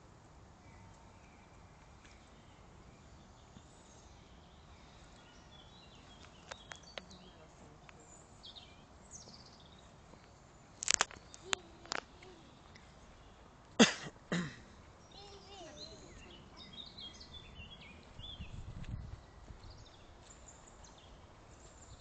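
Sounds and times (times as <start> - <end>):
faint bird chirps: 0.6 - 13.5, 15.0 - 22.0.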